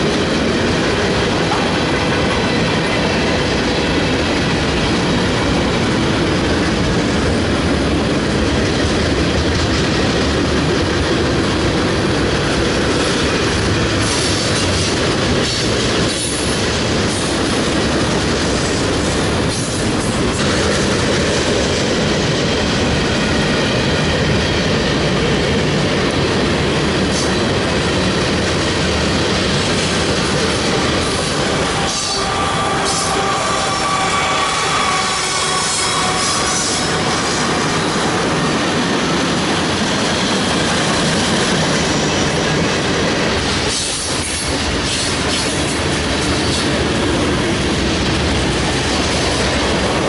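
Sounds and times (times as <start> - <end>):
freight train cars rolling: 0.0 - 50.0.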